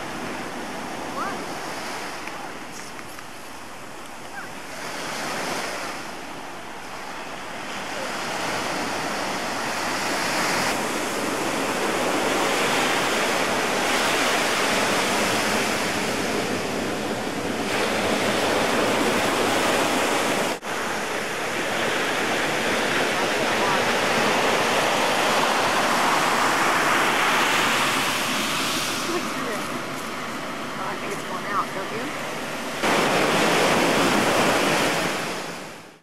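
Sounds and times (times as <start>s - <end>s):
surf washing onto beach: 0.0s - 36.0s.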